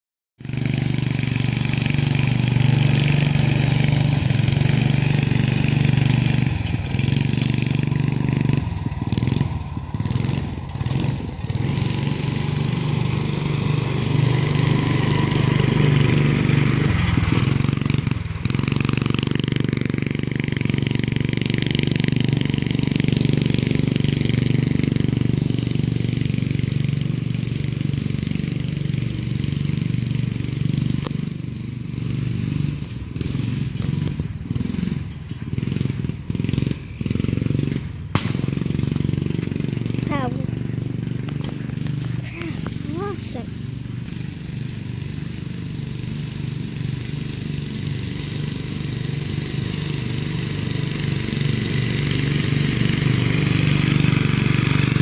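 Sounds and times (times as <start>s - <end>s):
mini bike engine running: 0.4s - 55.0s.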